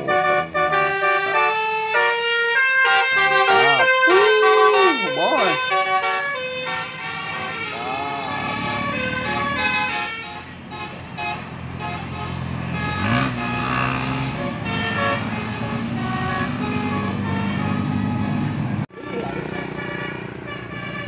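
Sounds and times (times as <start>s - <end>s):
bus musical horn tune: 0.0s - 18.6s, 19.4s - 21.0s
passing car engine: 0.0s - 21.0s.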